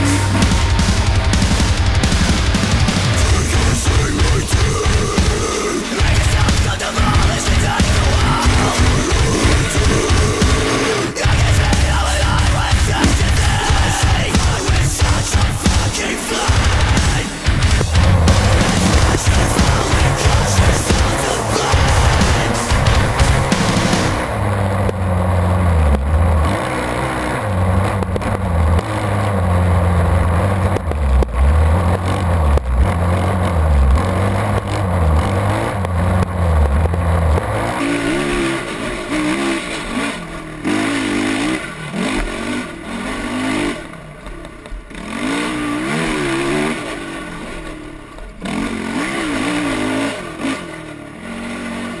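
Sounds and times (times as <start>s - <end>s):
quad engine revving: 0.0s - 52.0s.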